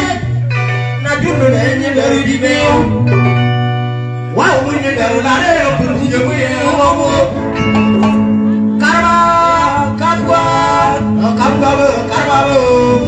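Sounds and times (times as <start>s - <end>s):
live backing music: 0.0s - 13.0s
men singing into microphones: 1.0s - 3.4s, 4.3s - 13.0s.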